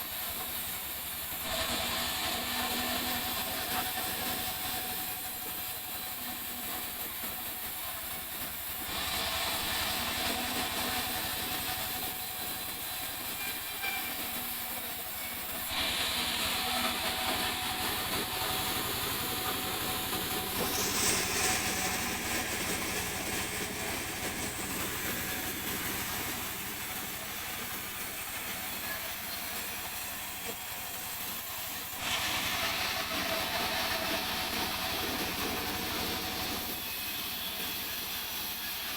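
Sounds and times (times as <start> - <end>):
sawmill saw cutting log: 0.0 - 38.9.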